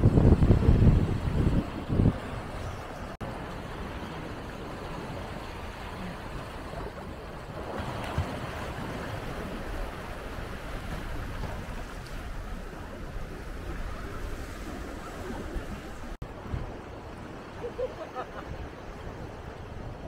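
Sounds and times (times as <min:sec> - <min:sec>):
sea waves breaking on shore: 0:00.0 - 0:20.0
wind rumbling on microphone: 0:00.0 - 0:20.0.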